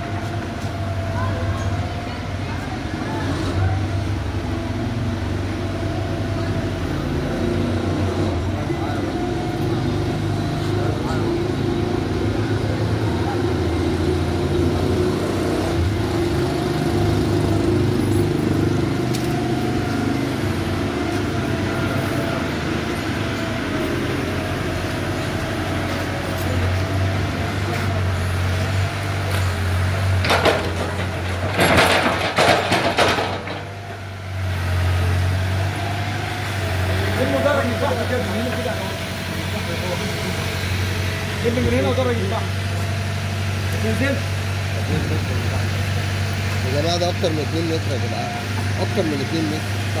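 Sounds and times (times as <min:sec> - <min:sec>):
construction machinery engine droning: 0:00.0 - 0:50.0.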